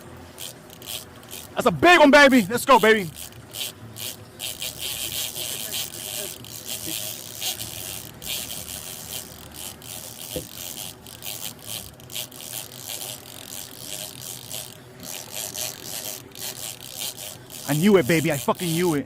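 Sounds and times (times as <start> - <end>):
fishing reel whirring rattle: 0.0 - 19.0
low boat noise: 0.0 - 19.0.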